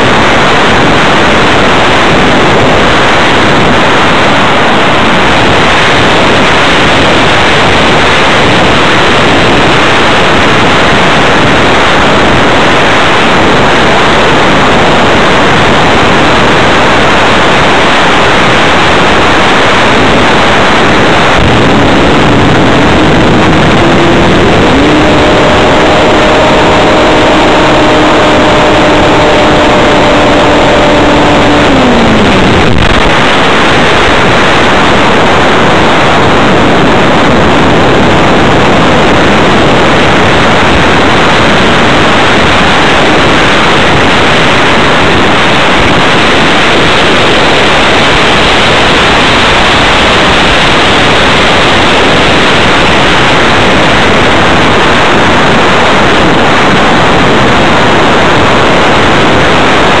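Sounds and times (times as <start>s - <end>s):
electric motor and propeller whine: 0.0s - 50.9s
wind rushing over microphone: 0.0s - 60.0s.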